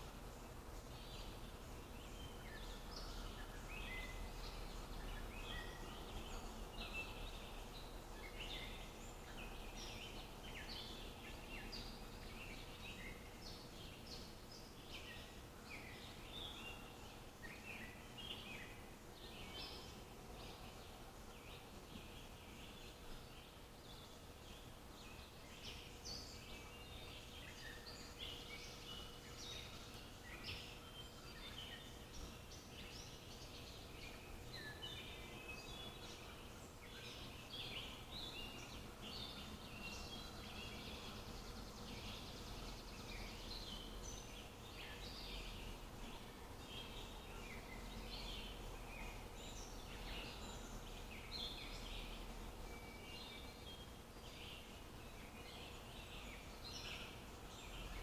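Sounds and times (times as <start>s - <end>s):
birds chirping and singing: 0.0s - 58.0s
faint steady hum: 0.0s - 58.0s.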